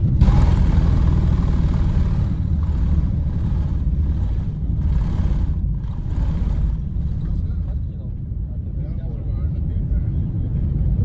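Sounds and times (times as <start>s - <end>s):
aircraft engines and airflow rumble: 0.0s - 11.0s.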